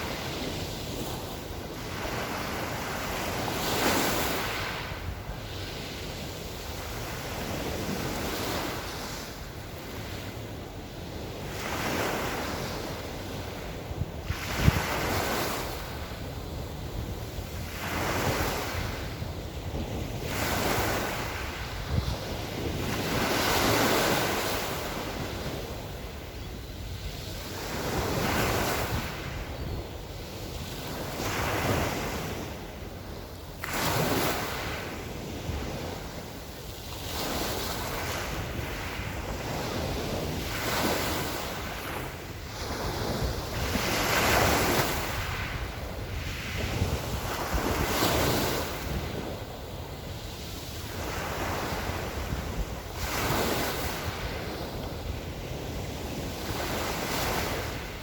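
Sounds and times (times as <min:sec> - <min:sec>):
waves washing onto shore: 0:00.0 - 0:58.0
wind rumbling on microphone: 0:00.0 - 0:58.0.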